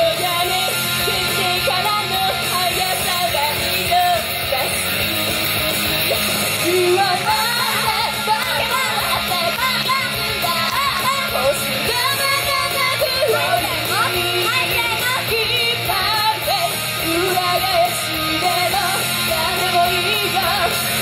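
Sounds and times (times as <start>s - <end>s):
women singing live: 0.0s - 5.4s, 6.1s - 21.0s
loud backing music: 0.0s - 21.0s.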